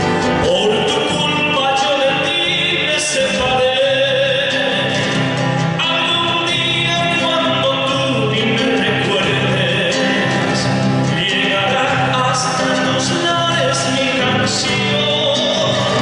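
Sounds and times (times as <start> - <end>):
folk song with singing: 0.0 - 16.0.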